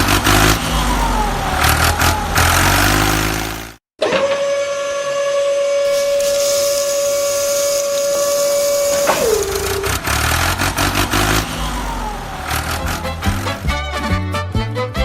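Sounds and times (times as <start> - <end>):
small motor whining: 0.0 - 13.7.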